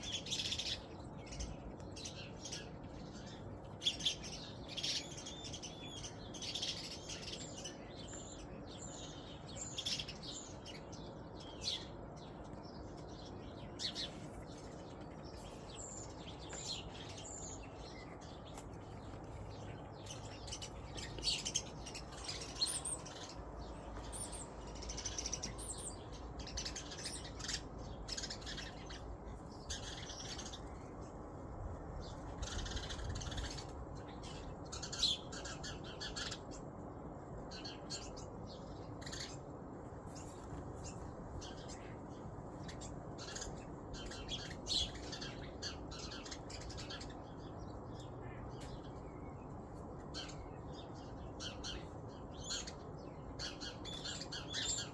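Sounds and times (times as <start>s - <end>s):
birds chirping and calling: 0.0s - 54.9s.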